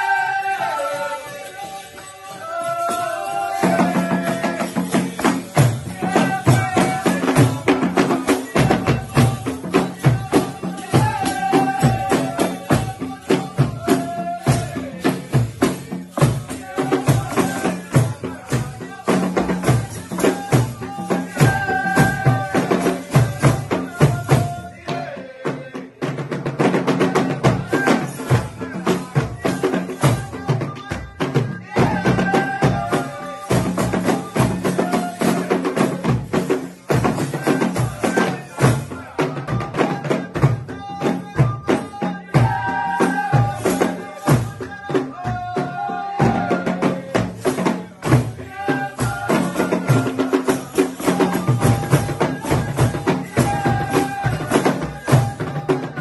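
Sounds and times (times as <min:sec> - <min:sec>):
drums beating fast rhythm: 0:00.0 - 0:56.0
group singing: 0:00.0 - 0:56.0.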